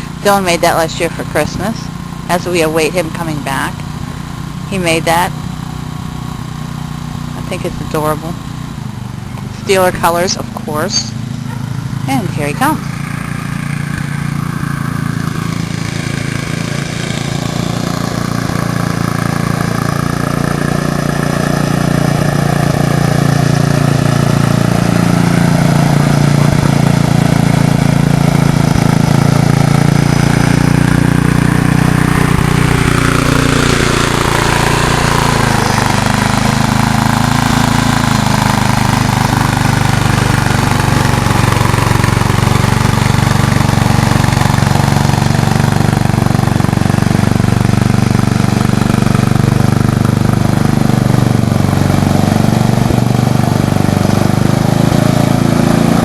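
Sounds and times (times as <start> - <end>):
riding lawnmower engine running: 0.0 - 56.0.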